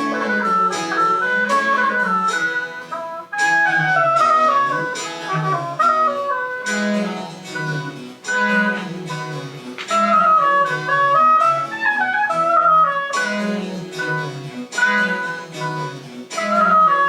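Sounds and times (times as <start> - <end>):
high woodwind melody: 0.0 - 17.0.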